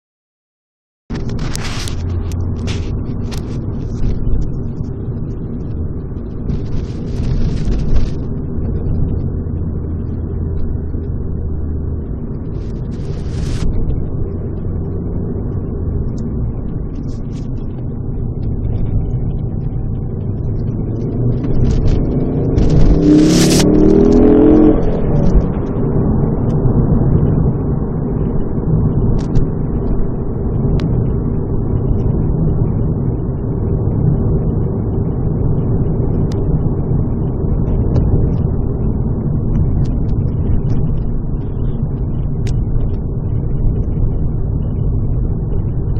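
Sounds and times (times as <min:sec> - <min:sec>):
car exhaust drone: 0:01.1 - 0:45.9.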